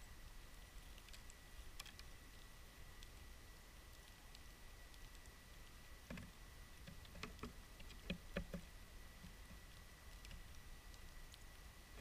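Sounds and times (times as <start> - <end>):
birds pecking seed on wood: 0.0 - 12.0.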